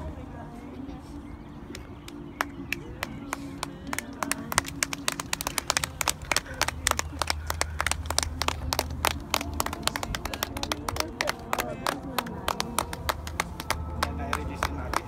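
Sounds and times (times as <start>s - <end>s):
people clapping: 1.7s - 15.0s.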